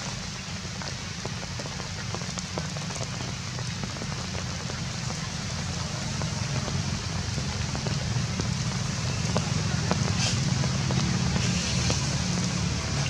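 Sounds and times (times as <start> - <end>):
rain falling on leaves: 0.0 - 13.0.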